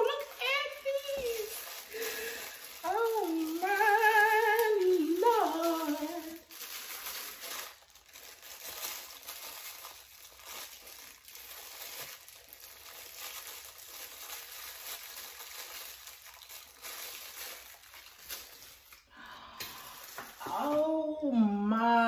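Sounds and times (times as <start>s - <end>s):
plastic bags crinkling: 0.0s - 21.1s.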